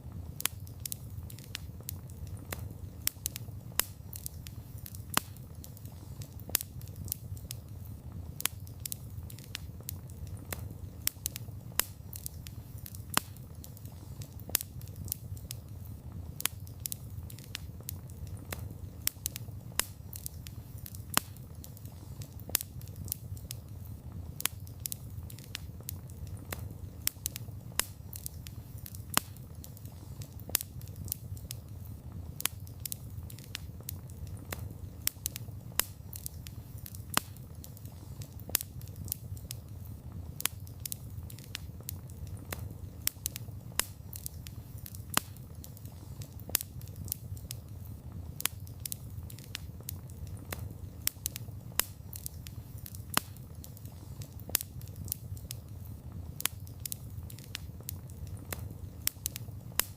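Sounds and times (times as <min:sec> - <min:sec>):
low rush of burning fire: 0:00.0 - 0:59.9
wood fire crackling: 0:00.0 - 0:59.9
sharp pops and snaps: 0:00.1 - 0:59.9.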